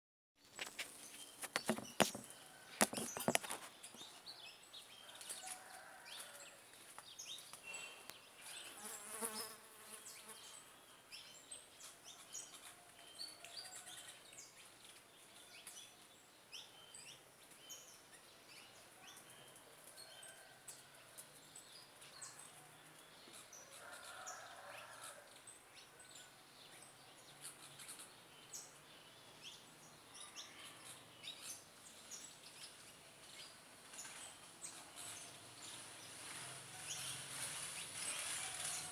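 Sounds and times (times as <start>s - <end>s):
small birds chirping: 0.4s - 38.9s.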